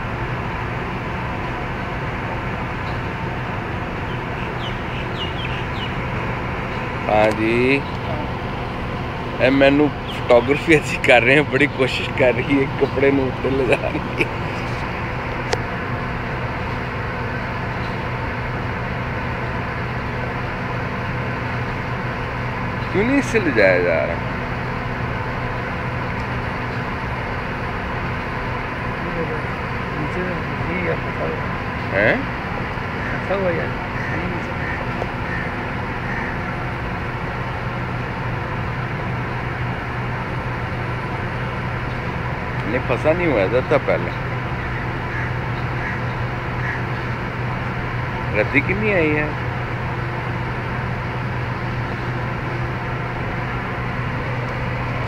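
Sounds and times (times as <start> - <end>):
constant hiss: 0.0 - 55.0
low mechanical hum: 0.0 - 55.0.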